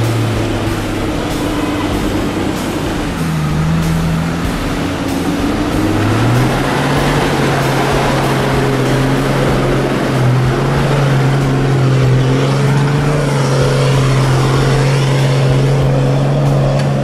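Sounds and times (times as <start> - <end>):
vehicle engine driving through mud: 0.0 - 17.0.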